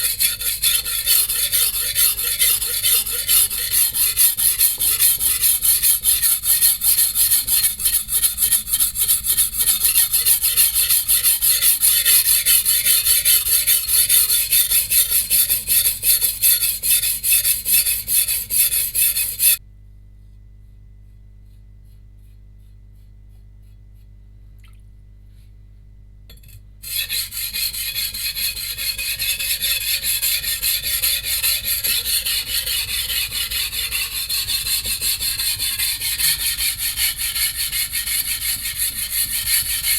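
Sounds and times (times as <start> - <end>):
blade grinding on whetstone: 0.0 - 19.6, 26.8 - 39.9.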